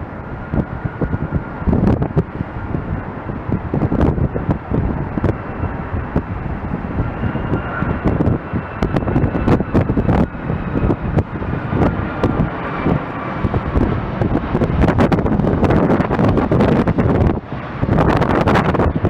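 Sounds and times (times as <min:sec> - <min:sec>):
distant jet engines whining: 0:00.0 - 0:19.0
gusty wind buffeting microphone: 0:00.0 - 0:19.0.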